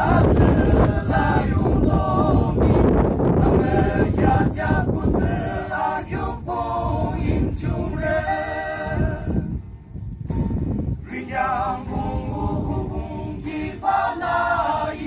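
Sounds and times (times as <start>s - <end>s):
male voices singing in harmony: 0.0s - 9.6s, 11.0s - 15.0s
acoustic guitar: 0.0s - 15.0s.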